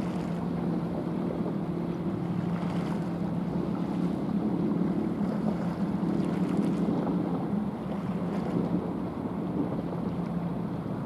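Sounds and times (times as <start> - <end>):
ship engine humming: 0.0 - 11.0
wind noise on microphone: 0.0 - 11.0.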